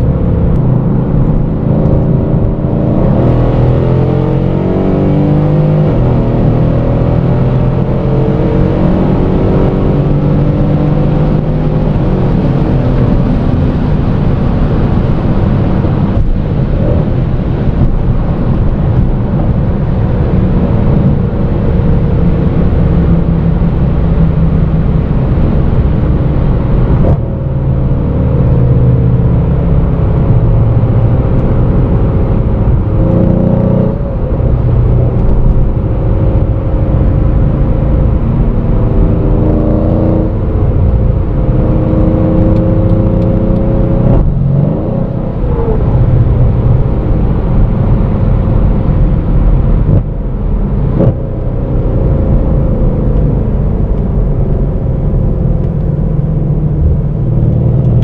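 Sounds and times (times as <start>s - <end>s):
car engine at high speed: 0.0s - 58.0s.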